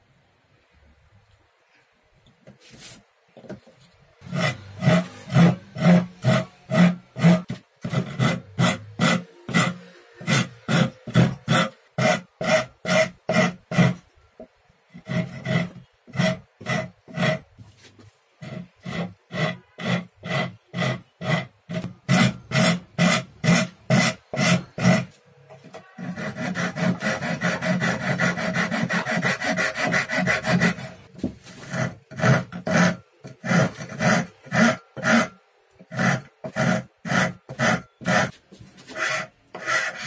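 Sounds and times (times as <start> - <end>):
hand file rasping on wood: 4.2 - 14.0, 15.0 - 17.8, 18.4 - 40.0.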